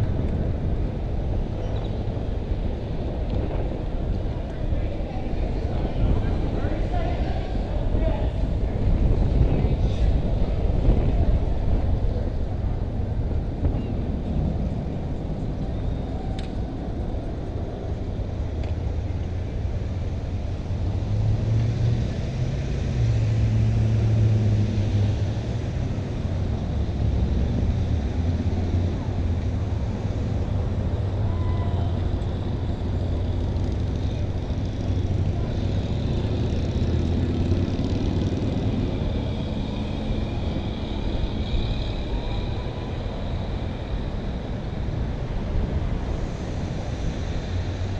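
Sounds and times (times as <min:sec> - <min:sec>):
cars engine and tyre rumble: 0:00.0 - 0:47.9.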